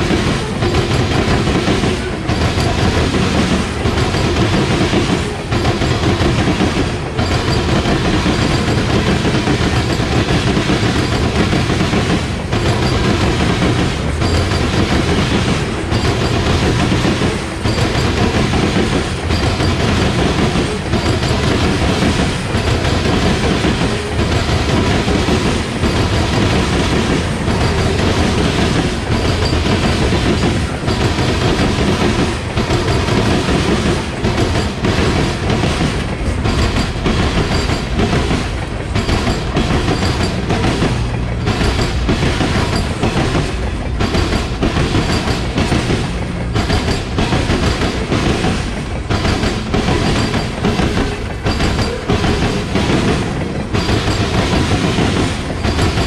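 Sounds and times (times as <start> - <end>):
steel wheels rumbling on rail: 0.0 - 56.0
wheels clacking over track joints: 0.0 - 56.0.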